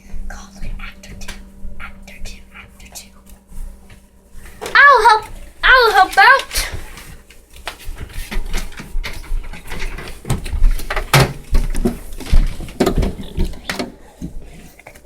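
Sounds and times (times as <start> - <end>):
rustling: 1.4 - 15.0.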